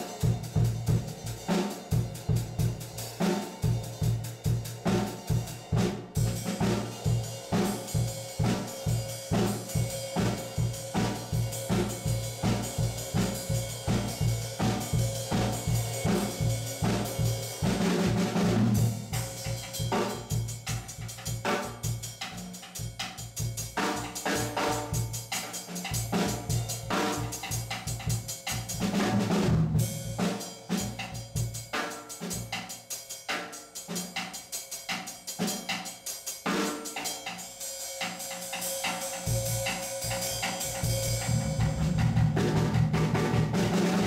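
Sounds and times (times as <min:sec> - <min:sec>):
drum kit played with sticks: 0:00.0 - 0:44.0.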